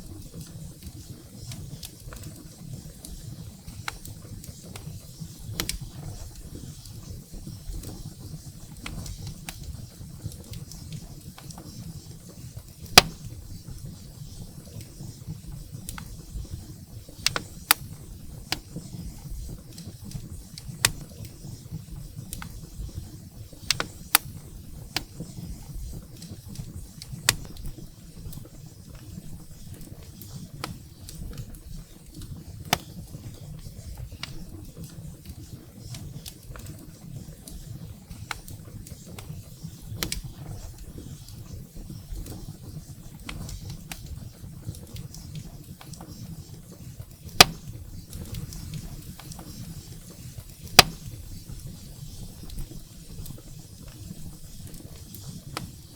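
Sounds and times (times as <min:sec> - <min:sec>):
firewood crackling and popping: 0:00.0 - 0:55.9.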